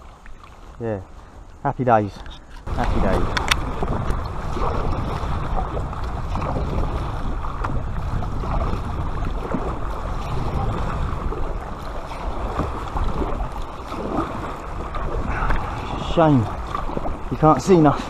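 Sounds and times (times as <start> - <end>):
paddle strokes splashing: 0.0 - 18.0
wind rumble on microphone: 2.2 - 18.0.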